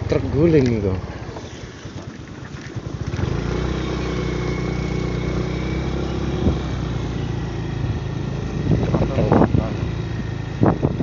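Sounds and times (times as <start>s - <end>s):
small engine starting and idling: 0.0s - 11.0s.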